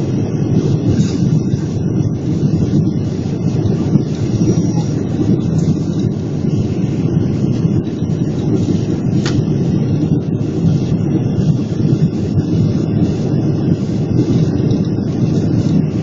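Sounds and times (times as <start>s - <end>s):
airplane cabin roar: 0.0s - 16.0s.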